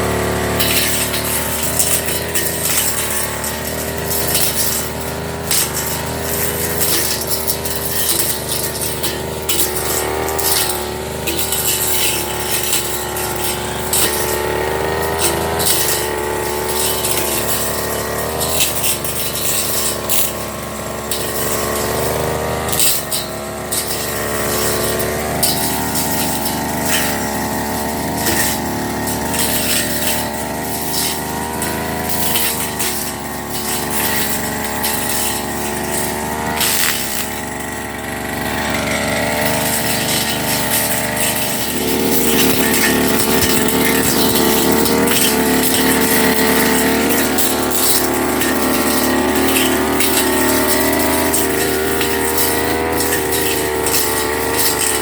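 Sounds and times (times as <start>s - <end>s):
brush cutter engine running hard: 0.0s - 55.0s
short ticks and crackles: 0.0s - 55.0s.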